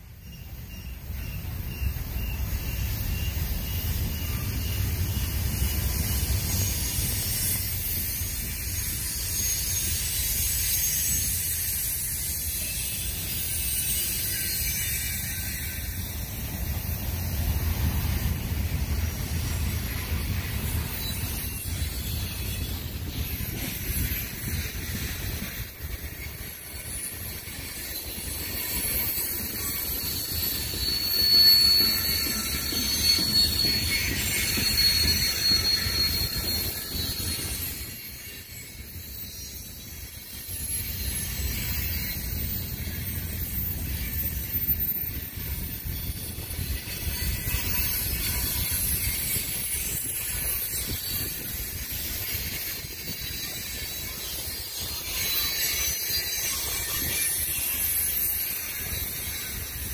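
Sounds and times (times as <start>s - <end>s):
freight train wheels rumbling: 0.0s - 59.9s
high wheel squeal: 0.0s - 59.9s.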